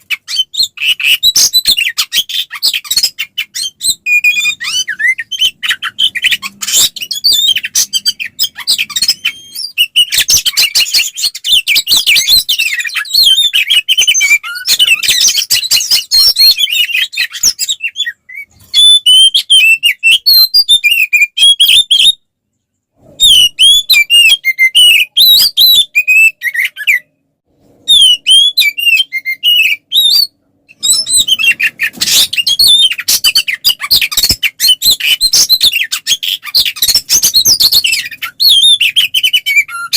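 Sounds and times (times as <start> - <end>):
magpie-robin singing: 0.0 - 22.2, 23.2 - 27.2, 27.9 - 39.9.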